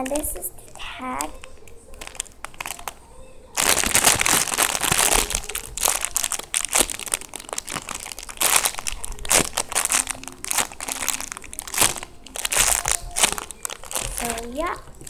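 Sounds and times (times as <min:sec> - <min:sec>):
plastic crinkling and rustling: 0:00.0 - 0:15.0.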